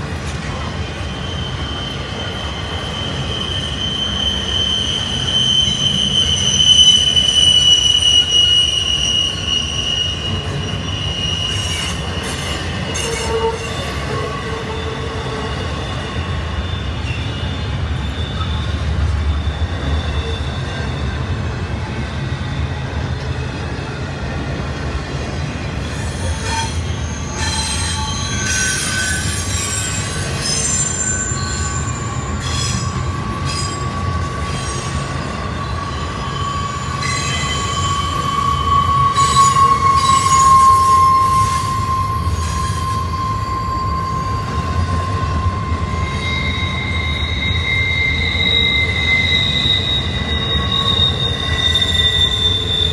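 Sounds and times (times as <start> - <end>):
freight train rumbling: 0.0 - 52.9
wheels squealing: 0.2 - 23.7, 24.4 - 52.9.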